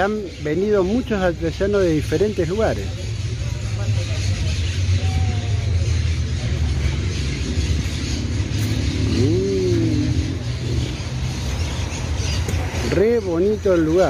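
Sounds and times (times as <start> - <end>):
engine rumbling: 0.0 - 14.0
outdoor crowd noise: 0.0 - 14.0.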